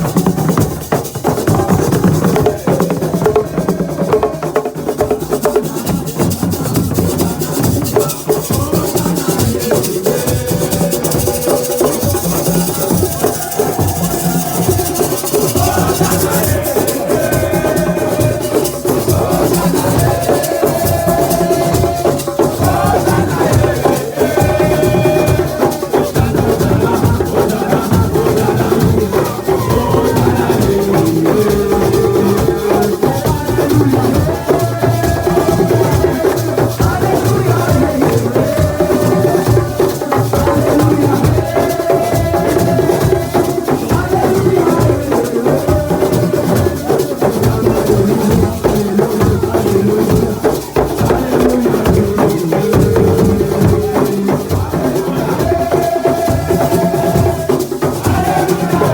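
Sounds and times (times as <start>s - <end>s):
drums: 0.0s - 58.9s
group of voices chanting: 1.5s - 58.9s
rattling shakers: 5.7s - 44.3s, 45.0s - 58.9s.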